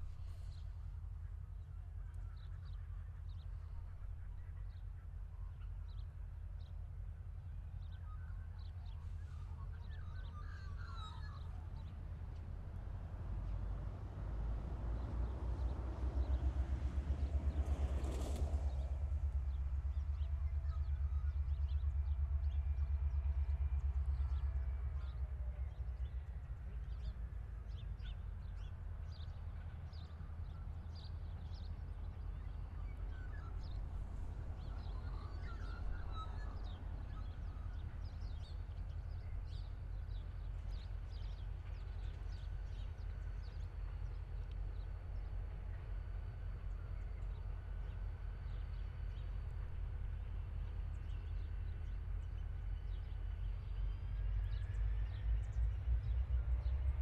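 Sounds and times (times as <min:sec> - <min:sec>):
low rumble: 0:10.6 - 0:57.0.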